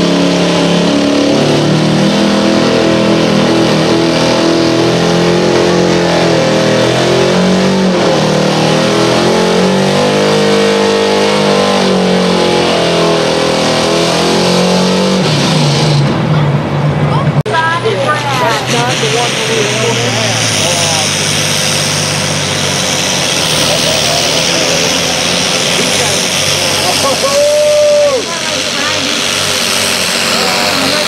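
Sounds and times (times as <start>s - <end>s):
truck engine at high revs: 0.0s - 31.0s.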